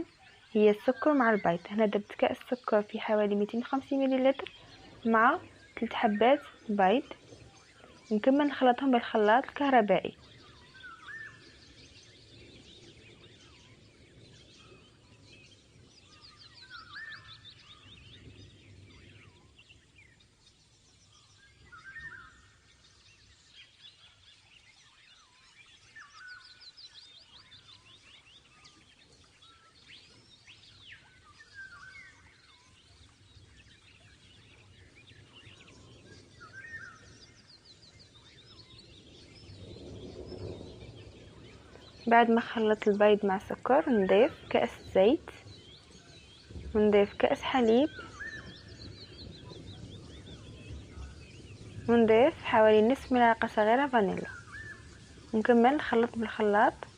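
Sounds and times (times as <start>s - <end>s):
birds singing: 0.0s - 56.9s
faint background hiss: 0.0s - 56.9s.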